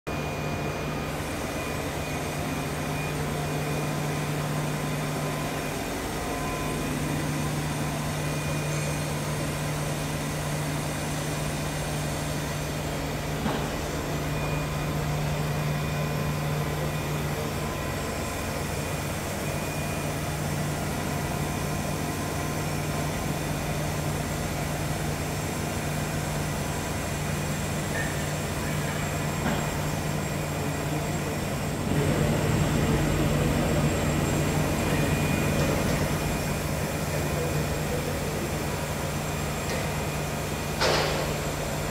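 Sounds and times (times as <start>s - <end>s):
lathe machine hum: 0.1s - 41.9s.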